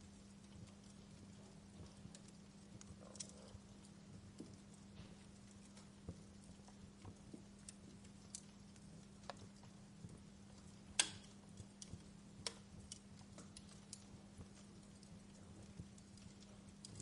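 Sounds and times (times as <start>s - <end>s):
faint low hum: 0.0s - 17.0s
wood fire crackling and popping: 0.0s - 17.0s.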